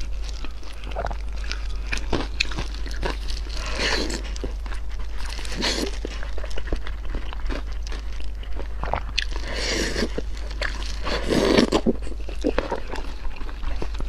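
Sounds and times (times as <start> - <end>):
wet chewing: 0.0 - 14.0.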